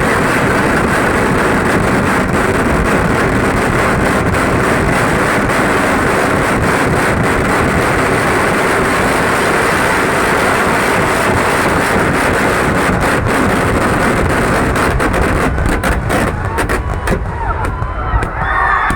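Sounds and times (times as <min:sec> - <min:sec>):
firecracker barrage: 0:00.0 - 0:18.9
firecracker cracks: 0:00.0 - 0:18.9.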